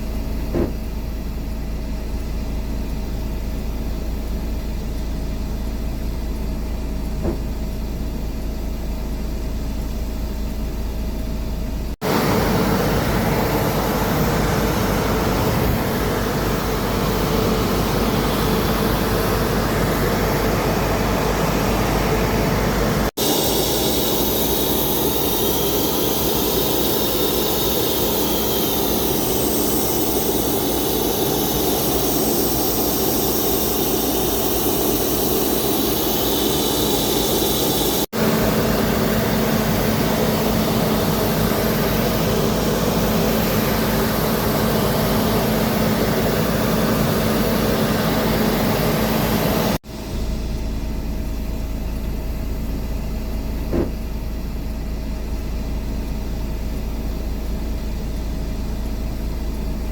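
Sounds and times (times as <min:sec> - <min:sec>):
aircraft engine high whine: 0:00.0 - 0:54.8
aircraft engine rumble: 0:00.0 - 0:59.9.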